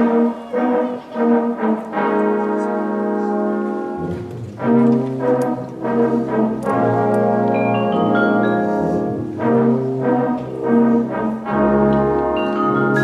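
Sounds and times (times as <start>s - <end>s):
brass section playing chords: 0.0s - 13.0s.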